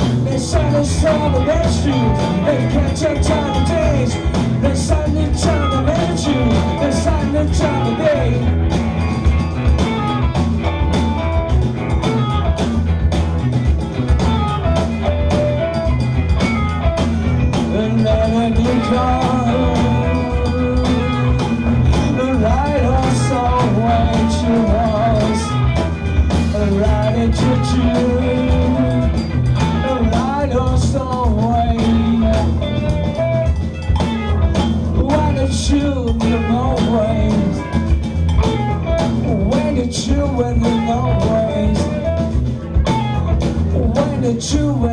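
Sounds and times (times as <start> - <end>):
person singing: 0.0 - 8.9, 16.9 - 44.9
drum kit with cymbal hits: 0.0 - 44.9
electric bass: 0.0 - 44.9
electric guitar lines: 0.0 - 44.9
live rock band playing: 0.0 - 44.9.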